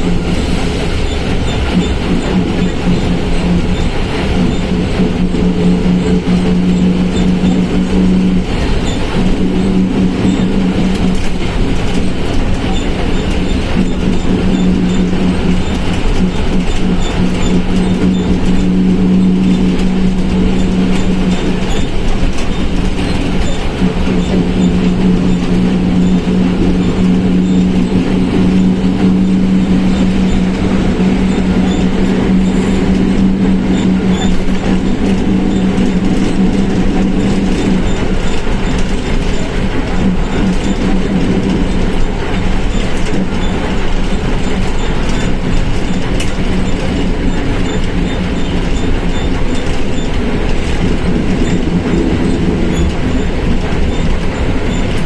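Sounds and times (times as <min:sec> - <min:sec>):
bus engine drone: 0:00.0 - 0:55.0
strong hum: 0:00.0 - 0:55.0.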